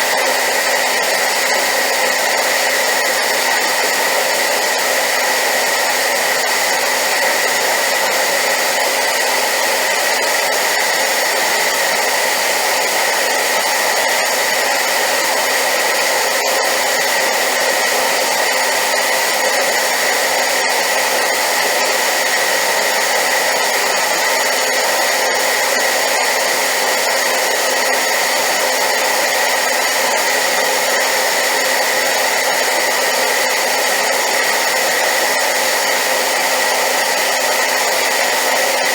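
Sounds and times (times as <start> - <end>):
hair dryer air rushing: 0.0 - 38.9
hair dryer motor whine: 0.0 - 38.9.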